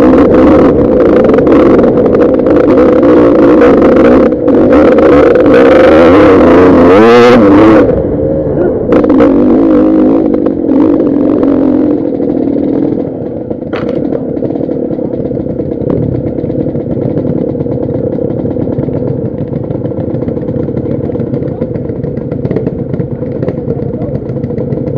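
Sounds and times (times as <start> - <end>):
dirt bike engine revving and idling: 0.0 - 24.9.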